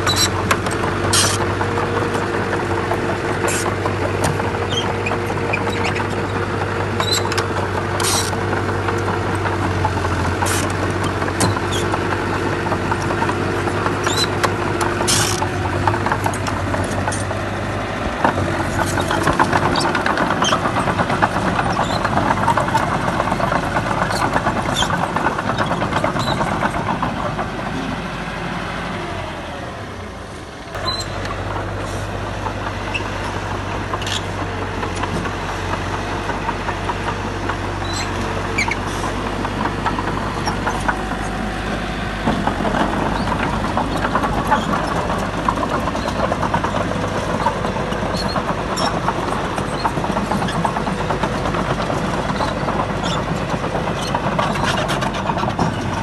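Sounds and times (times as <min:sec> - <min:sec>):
diesel construction machinery running: 0:00.0 - 0:56.0.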